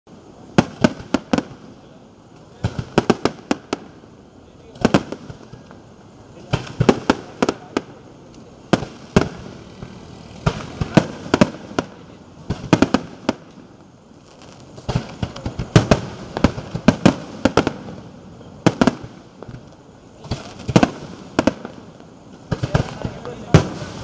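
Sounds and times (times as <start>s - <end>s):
fireworks bursting: 0.1s - 24.0s.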